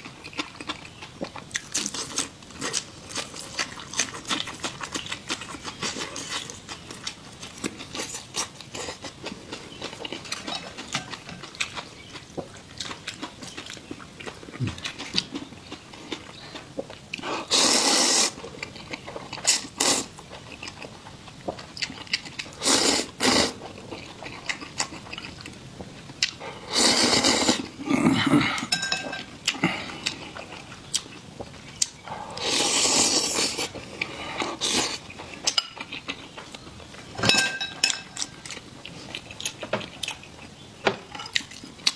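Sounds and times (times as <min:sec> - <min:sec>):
chewing with crunchy clicks: 0:00.0 - 0:17.6, 0:18.3 - 0:26.6, 0:28.4 - 0:41.9.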